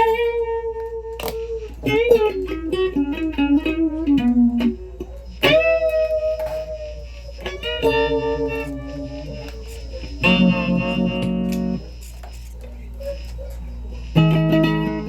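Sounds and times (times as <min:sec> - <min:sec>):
guitar played with a pick: 0:00.0 - 0:11.9, 0:14.1 - 0:15.0
steady low hum: 0:00.0 - 0:15.0.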